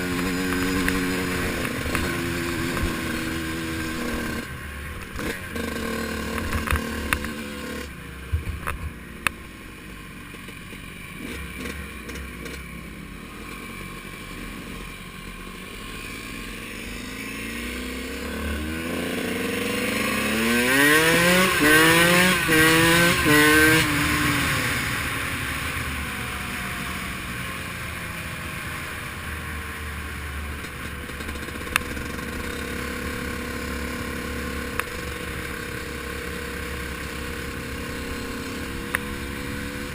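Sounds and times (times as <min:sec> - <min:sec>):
dirt bike engine accelerating: 0:00.0 - 0:08.5, 0:10.3 - 0:12.7, 0:15.4 - 0:39.9.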